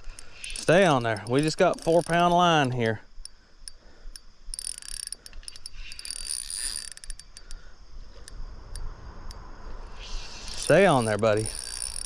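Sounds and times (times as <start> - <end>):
fishing reel drag clicking: 0.0 - 12.0.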